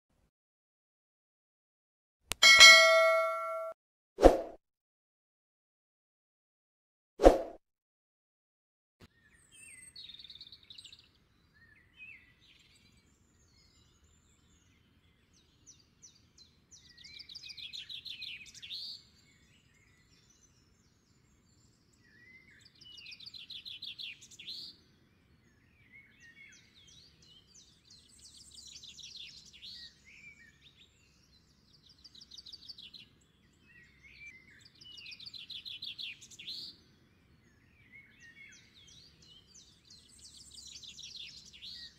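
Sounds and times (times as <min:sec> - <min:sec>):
birdsong with chirps and trills: 0:02.4 - 0:03.7, 0:09.0 - 0:41.9.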